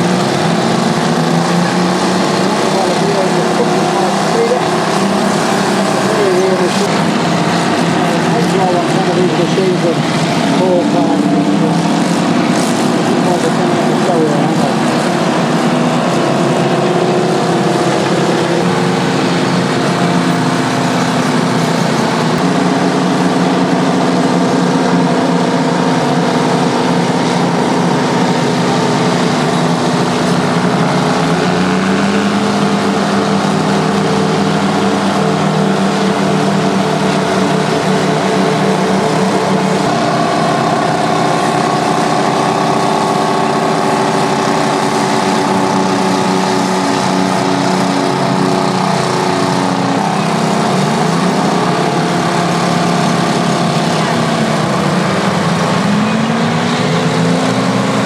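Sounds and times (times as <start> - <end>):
bulldozer diesel engines running hard: 0.0 - 58.0.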